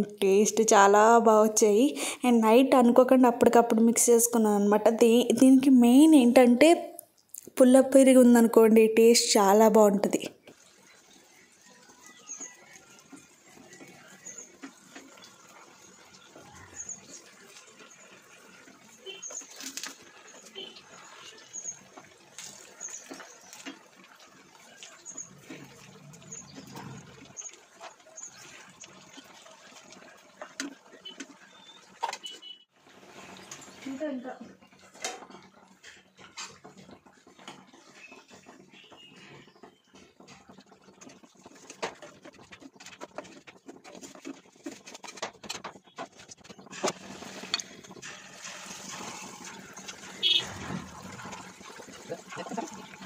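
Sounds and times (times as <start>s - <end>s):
fritters deep-frying in oil: 7.3s - 53.0s.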